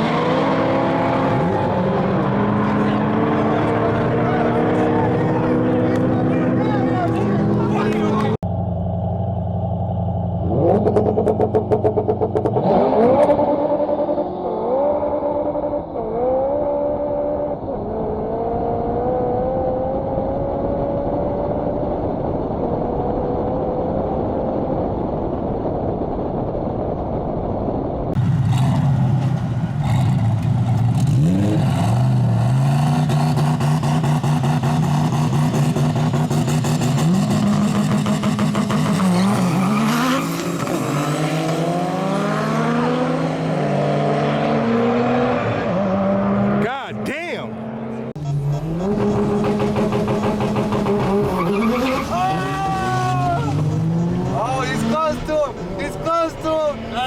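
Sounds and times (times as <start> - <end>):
car engine accelerating: 0.0 - 26.6, 28.1 - 57.0.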